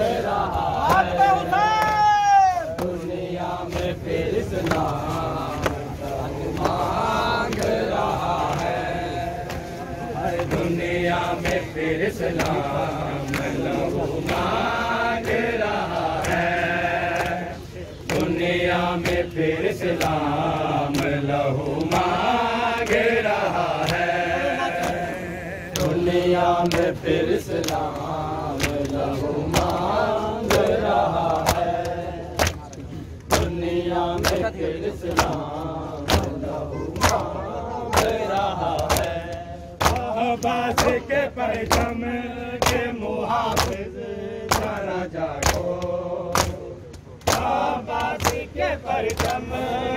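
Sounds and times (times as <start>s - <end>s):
men chanting: 0.0s - 49.9s
hand slaps on bare chests: 0.2s - 5.9s, 6.5s - 24.2s, 25.7s - 49.5s.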